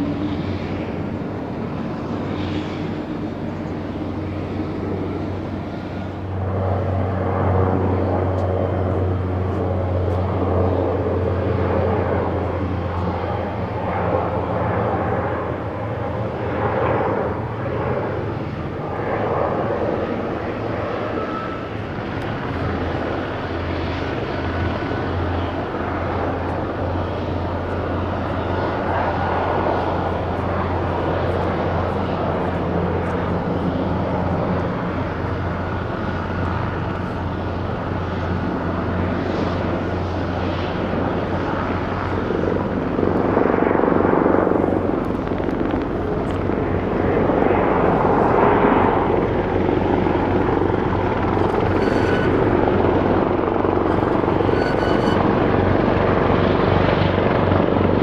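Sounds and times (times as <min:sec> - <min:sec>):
helicopter rotor and turbine drone: 0:00.0 - 0:58.0.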